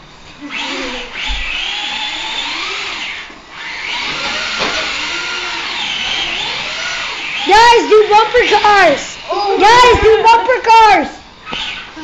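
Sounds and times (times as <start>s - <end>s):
radio-controlled car motors whining: 0.4s - 12.0s.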